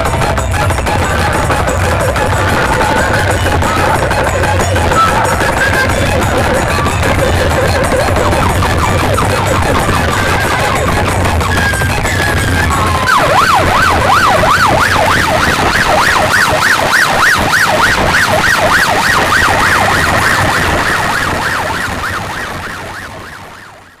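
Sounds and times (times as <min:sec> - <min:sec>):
heavy bass: 0:00.0 - 0:24.0
warbling siren sound effect: 0:00.0 - 0:24.0.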